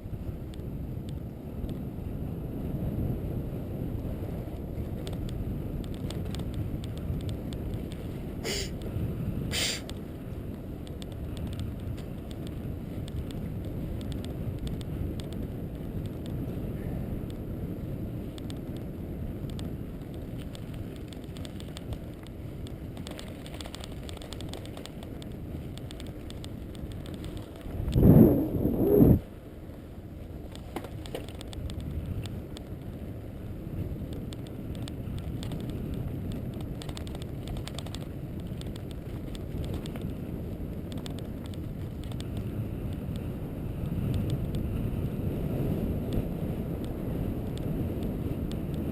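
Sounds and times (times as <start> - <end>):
road noise: 0.0 - 48.9
wind on microphone: 0.0 - 48.9.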